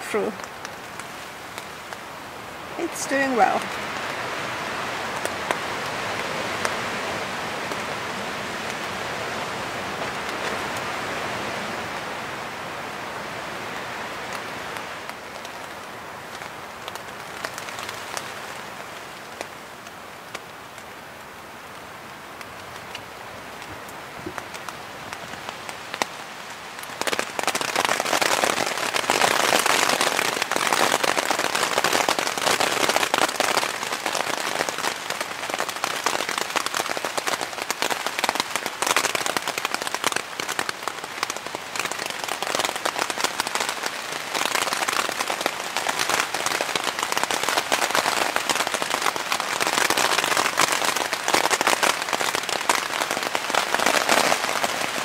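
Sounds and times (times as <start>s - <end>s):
heavy rain on tent fabric: 0.0s - 55.0s.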